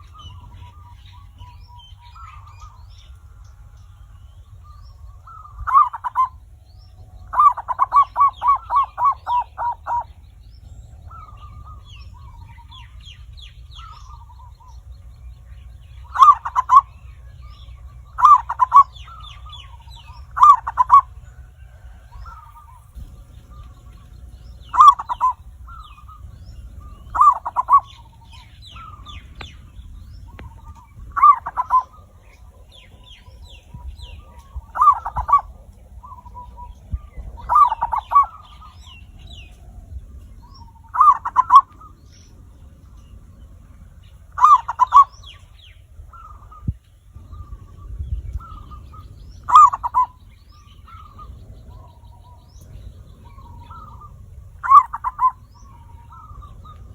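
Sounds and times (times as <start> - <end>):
dove trilled cooing: 0.0 - 56.9.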